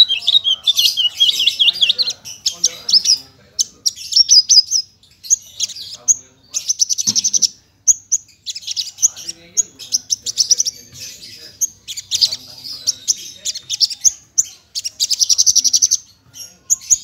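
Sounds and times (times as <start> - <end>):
lark singing chirps and trills: 0.0 - 17.0.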